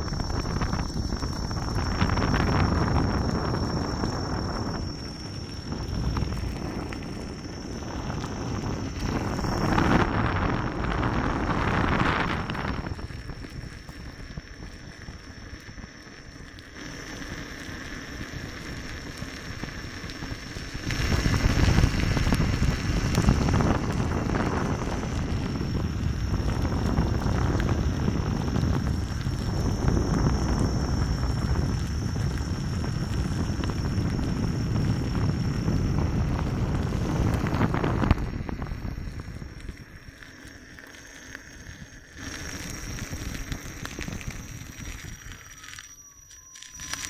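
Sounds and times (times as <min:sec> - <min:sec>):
wind buffeting microphone: 0:00.0 - 0:16.0, 0:16.8 - 0:45.8
tyres rolling on gravel: 0:00.0 - 0:45.8.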